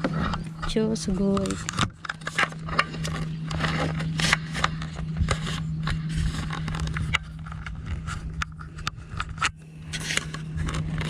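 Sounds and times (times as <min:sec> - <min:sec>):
scraping and clicking handling noises: 0:00.0 - 0:11.0
steady low hum: 0:00.0 - 0:11.0.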